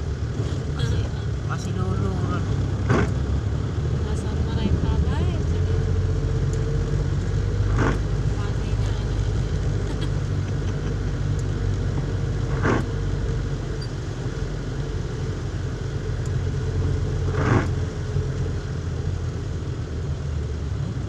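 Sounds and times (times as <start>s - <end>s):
car engine and tyre drone: 0.0s - 21.0s.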